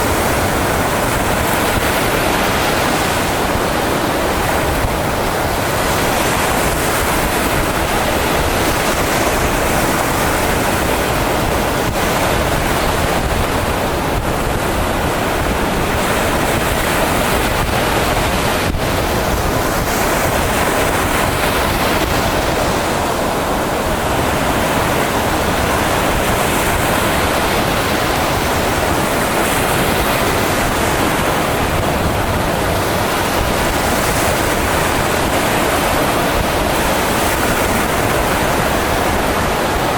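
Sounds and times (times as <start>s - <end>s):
surf waves rushing: 0.0s - 39.9s.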